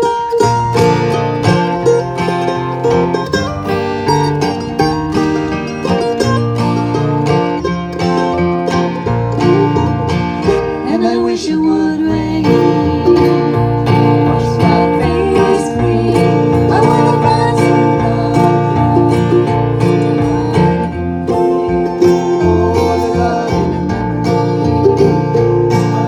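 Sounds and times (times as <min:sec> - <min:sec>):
banjo: 0:00.0 - 0:26.0
plucked guitar: 0:00.0 - 0:26.0
stepping bass line: 0:00.4 - 0:11.0, 0:12.4 - 0:26.0.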